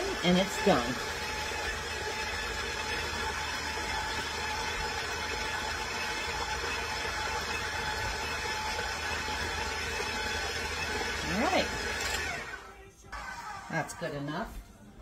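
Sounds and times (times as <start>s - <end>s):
stand mixer motor humming: 0.0s - 14.0s
beater turning through thick batter: 0.0s - 14.5s.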